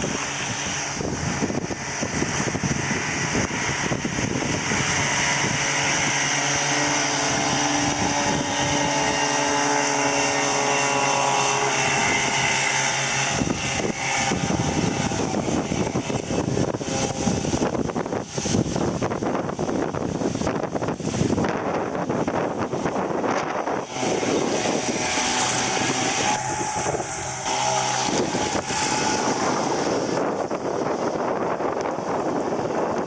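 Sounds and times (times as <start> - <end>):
outboard motor running: 0.0 - 33.0
water rushing: 0.0 - 33.0
wind rushing: 0.0 - 33.0.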